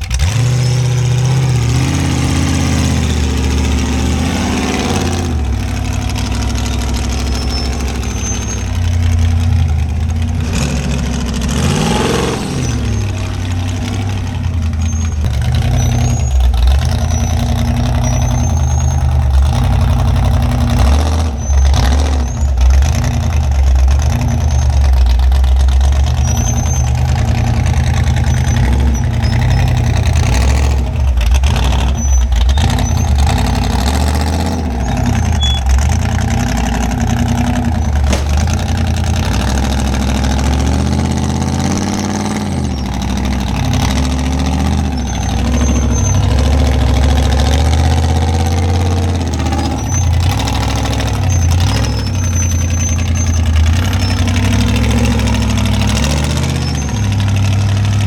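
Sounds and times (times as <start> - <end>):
engine running at low revs: 0.0 - 58.0.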